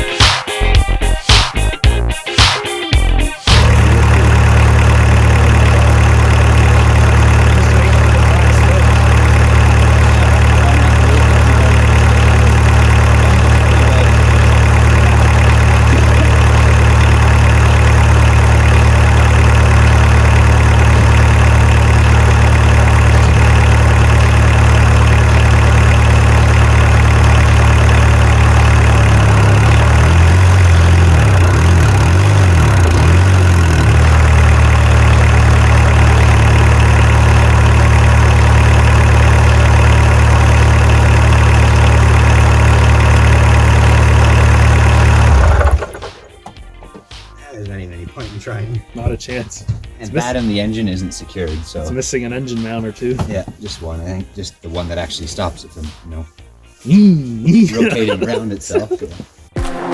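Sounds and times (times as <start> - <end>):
diesel engine idling: 3.0 - 54.2.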